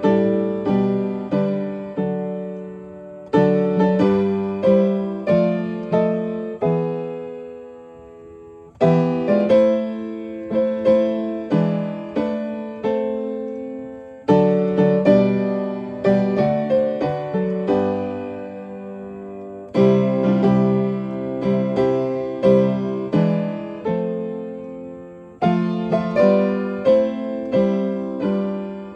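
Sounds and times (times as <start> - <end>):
upright piano playing chords: 0.0 - 28.9.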